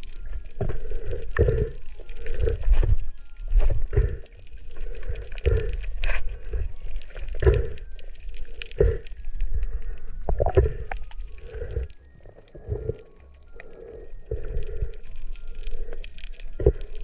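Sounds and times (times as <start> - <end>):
crackle: 0.0 - 17.0
muffled underwater water movement: 0.0 - 17.0.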